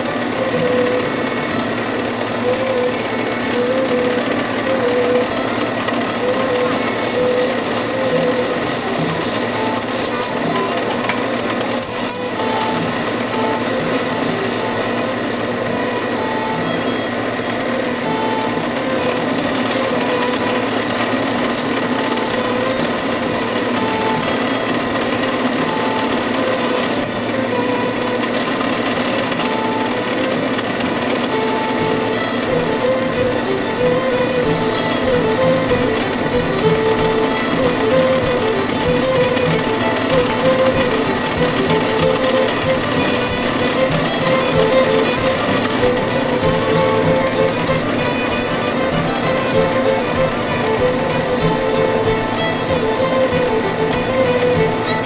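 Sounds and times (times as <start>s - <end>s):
belt sander grinding a knife: 2.4s - 55.0s.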